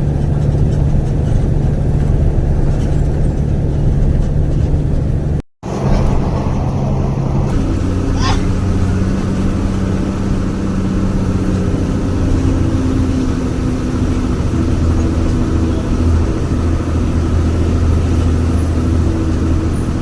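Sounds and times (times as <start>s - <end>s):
bus engine droning: 0.0s - 20.0s.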